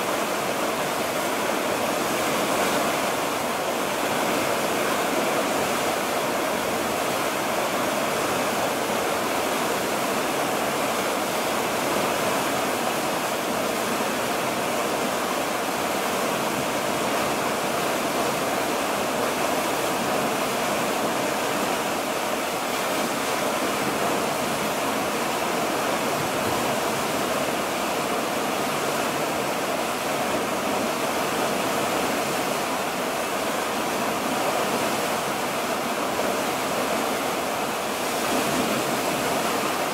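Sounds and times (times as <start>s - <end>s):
water rushing along ship hull: 0.0s - 39.9s.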